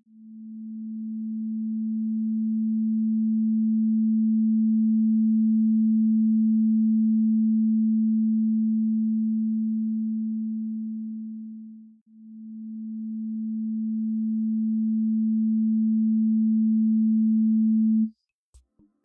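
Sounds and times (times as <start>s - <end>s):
low sine-wave test tone: 0.0s - 18.1s.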